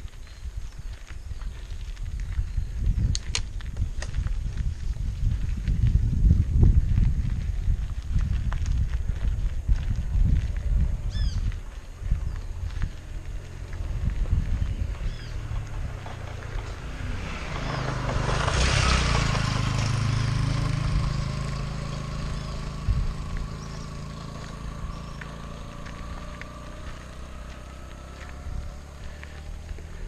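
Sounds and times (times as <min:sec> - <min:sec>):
bicycle tyres on gravel: 0:00.0 - 0:30.0
motorcycle passing: 0:04.1 - 0:30.0.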